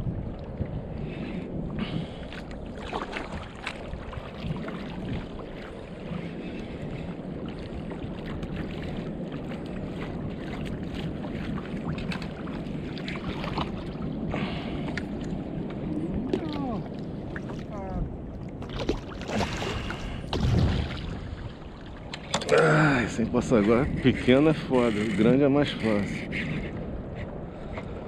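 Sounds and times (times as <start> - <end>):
waves lapping against kayak hull: 0.0 - 28.0
wind rumble on microphone: 0.0 - 28.0.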